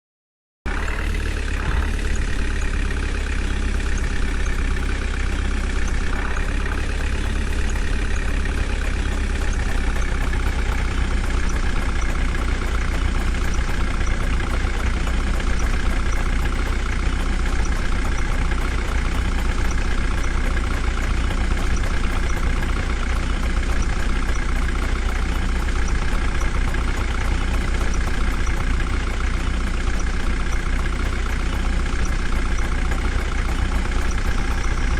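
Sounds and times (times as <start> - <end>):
diesel engine droning: 0.7 - 34.9.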